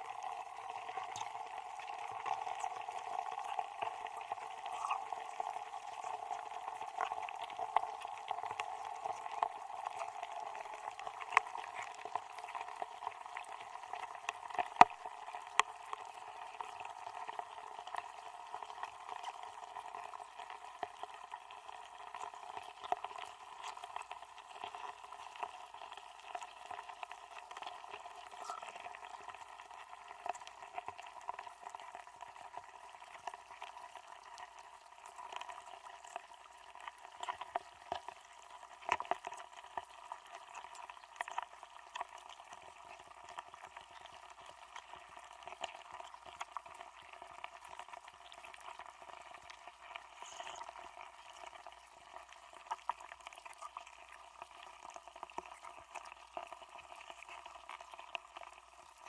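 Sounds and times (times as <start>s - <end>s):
muffled crackling noise: 0.0s - 59.0s.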